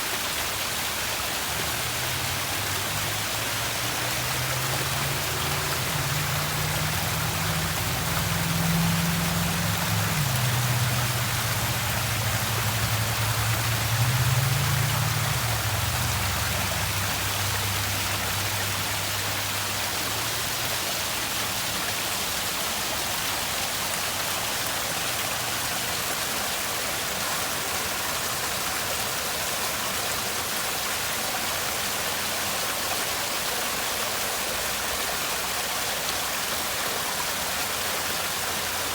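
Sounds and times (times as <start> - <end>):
falling splashing water: 0.0 - 38.9.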